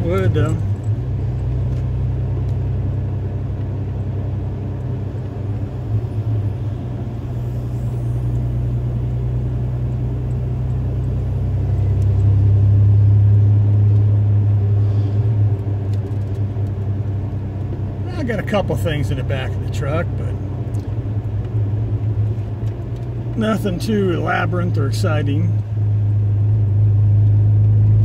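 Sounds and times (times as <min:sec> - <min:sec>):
truck engine and road drone: 0:00.0 - 0:28.0.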